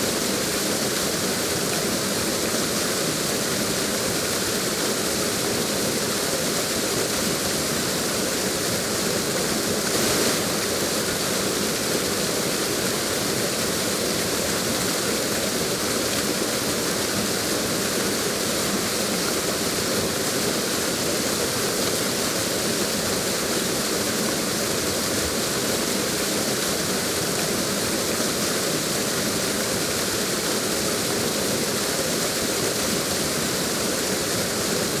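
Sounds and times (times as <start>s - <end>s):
water rushing: 0.0s - 35.0s.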